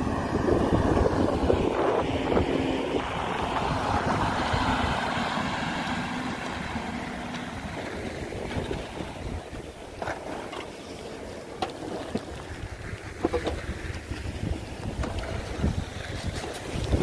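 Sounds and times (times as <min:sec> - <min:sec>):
wind noise on microphone: 0:00.0 - 0:10.5, 0:11.8 - 0:17.0
engine running steadily: 0:00.0 - 0:17.0.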